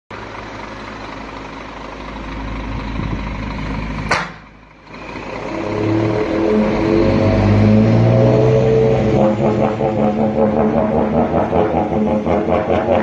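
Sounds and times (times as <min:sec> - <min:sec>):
truck diesel engine running: 0:00.1 - 0:13.0.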